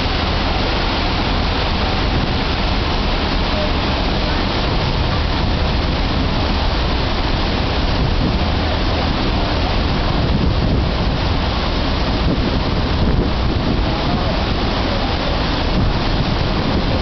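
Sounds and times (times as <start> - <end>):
low engine rumble: 0.0 - 17.0
rushing water: 0.0 - 17.0
wind: 0.0 - 17.0.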